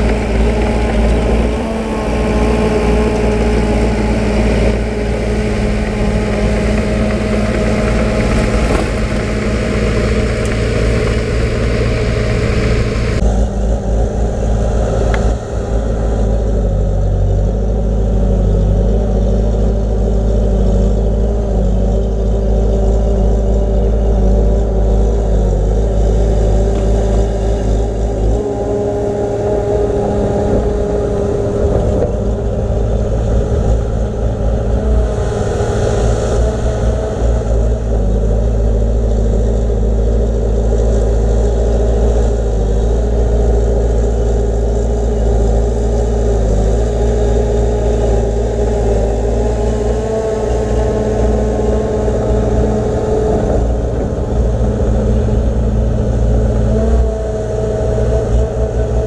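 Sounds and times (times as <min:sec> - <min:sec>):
heavy diesel engine rumbling: 0:00.0 - 0:59.0.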